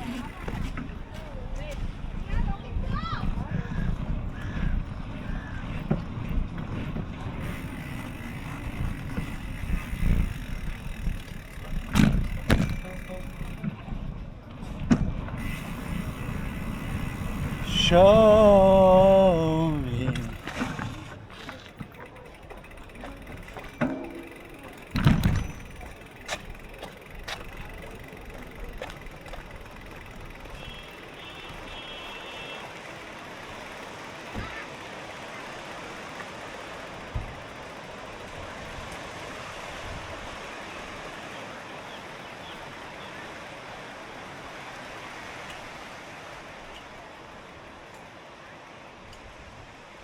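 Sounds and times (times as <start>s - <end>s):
bicycle road rumble: 0.0s - 50.0s
wind: 0.0s - 50.0s.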